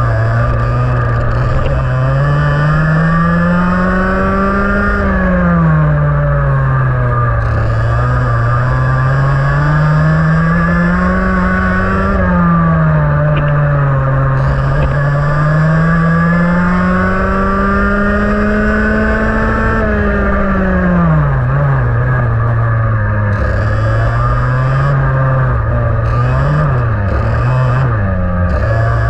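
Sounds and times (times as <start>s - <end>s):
kart engine revving: 0.0s - 29.0s.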